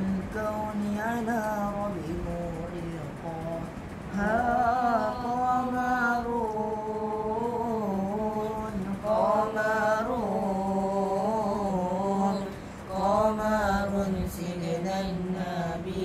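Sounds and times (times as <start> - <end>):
boy singing unaccompanied: 0.0 - 16.0.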